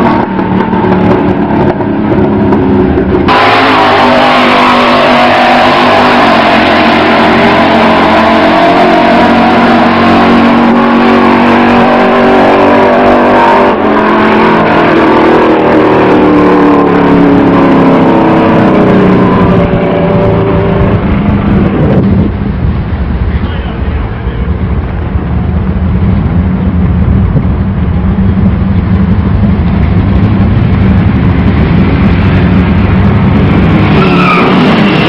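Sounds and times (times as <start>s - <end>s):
racing car engine at full throttle: 0.0s - 35.0s.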